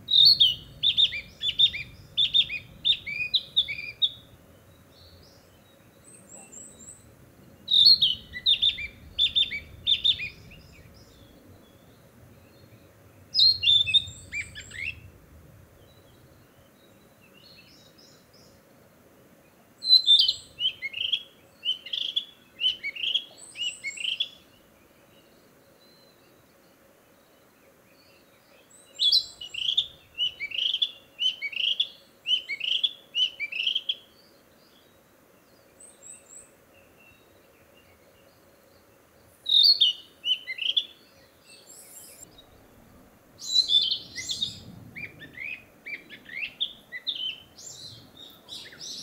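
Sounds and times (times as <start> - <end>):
flycatcher singing: 0.0 - 18.6, 19.4 - 49.0.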